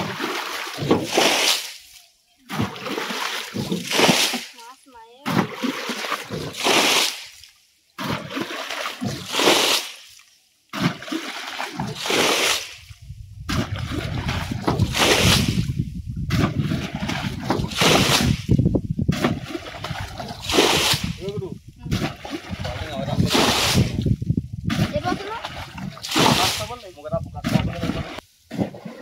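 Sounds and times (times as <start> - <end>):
splashes of thrown water: 0.0 - 15.7, 16.3 - 24.1, 24.7 - 29.0
water sloshing: 0.0 - 29.0.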